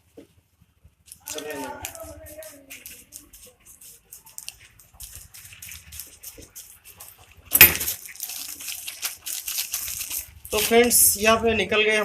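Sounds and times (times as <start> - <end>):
packaging crackling: 1.0 - 11.3.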